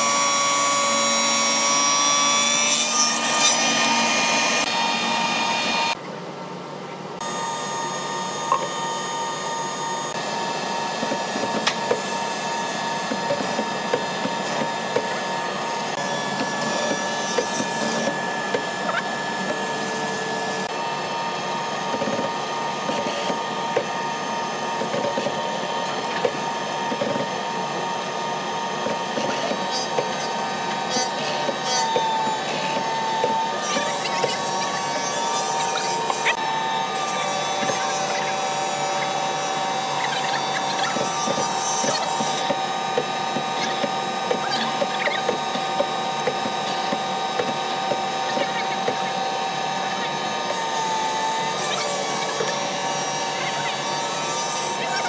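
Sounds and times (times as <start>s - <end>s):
woodworking cutter whining: 0.0s - 55.0s
mortiser motor hum: 7.2s - 55.0s.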